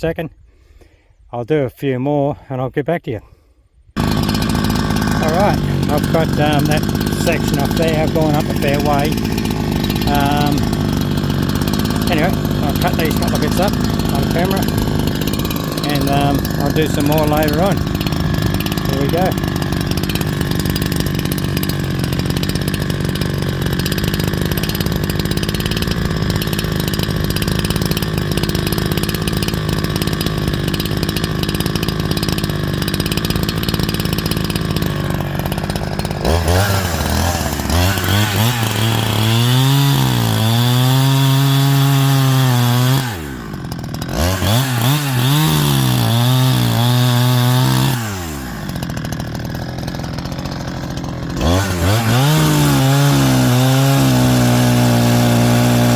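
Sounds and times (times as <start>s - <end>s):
chainsaw cutting log: 4.0s - 55.9s.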